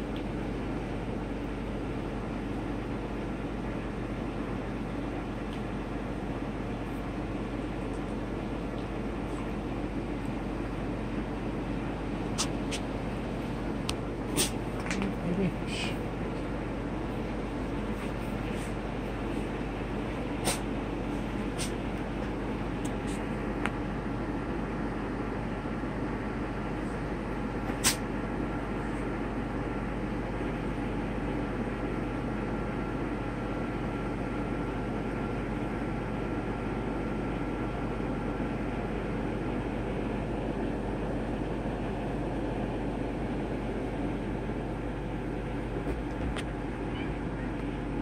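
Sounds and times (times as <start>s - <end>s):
steady droning hum: 0.0s - 48.0s.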